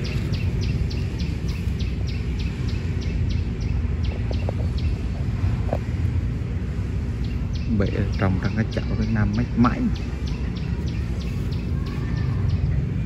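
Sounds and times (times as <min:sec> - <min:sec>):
small bird chirping: 0:00.0 - 0:05.2, 0:07.2 - 0:13.0
steady low rumble: 0:00.0 - 0:13.0.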